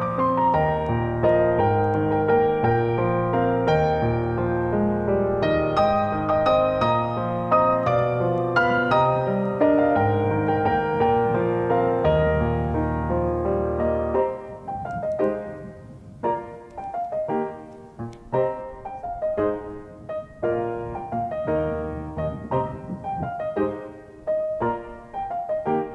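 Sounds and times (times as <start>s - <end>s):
gentle piano melody: 0.0s - 25.9s.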